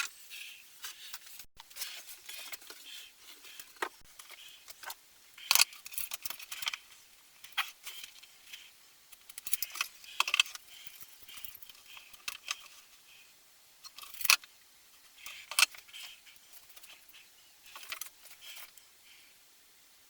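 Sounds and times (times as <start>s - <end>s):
small hard parts clicking and rattling: 0.0s - 13.2s, 13.8s - 14.5s, 15.1s - 18.9s.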